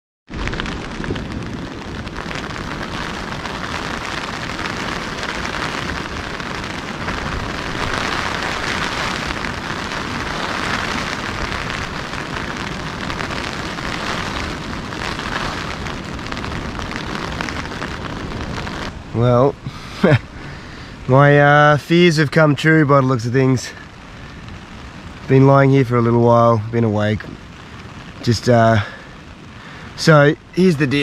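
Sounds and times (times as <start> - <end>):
steady rain: 0.3 - 31.0.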